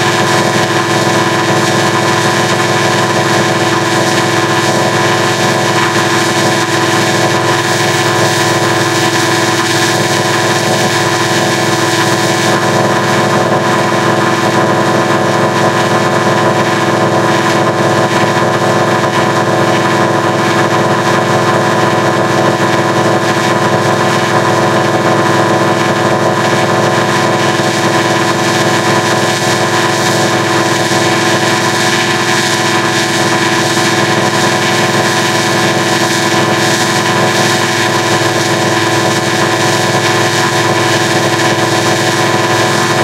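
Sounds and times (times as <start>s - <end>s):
distorted electronic drone: 0.0s - 43.0s.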